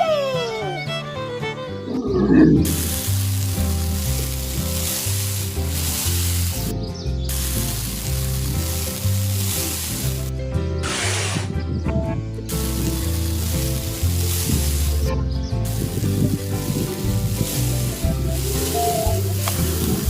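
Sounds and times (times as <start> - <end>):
background music with bass line: 0.0 - 20.0
loud sizzling hiss: 1.9 - 11.5, 12.4 - 20.0.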